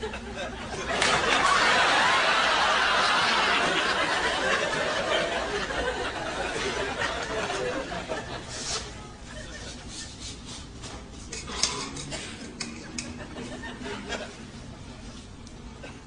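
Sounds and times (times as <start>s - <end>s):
audience laughter: 0.0s - 10.3s, 12.0s - 14.9s.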